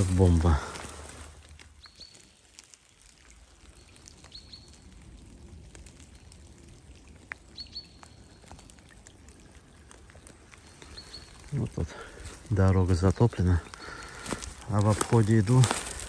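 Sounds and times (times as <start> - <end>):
rain dripping: 0.0 - 16.0.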